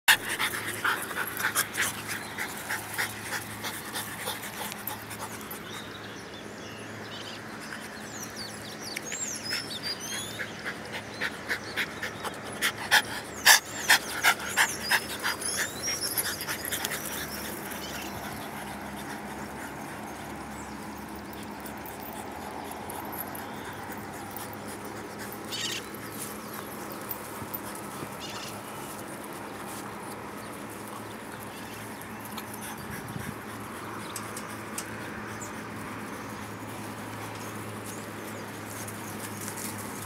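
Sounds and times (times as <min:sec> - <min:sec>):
dog panting: 0:00.1 - 0:06.0, 0:09.3 - 0:40.0.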